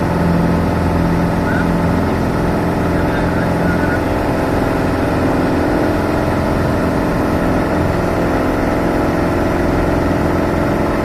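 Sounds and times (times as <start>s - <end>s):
propeller plane engine running: 0.0s - 11.0s.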